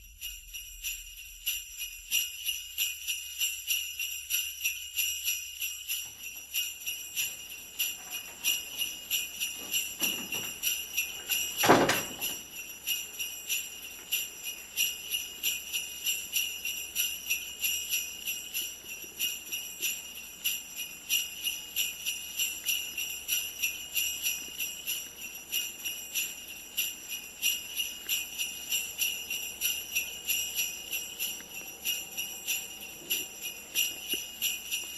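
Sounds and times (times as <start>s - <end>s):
sleigh bells jingling: 0.0s - 34.9s.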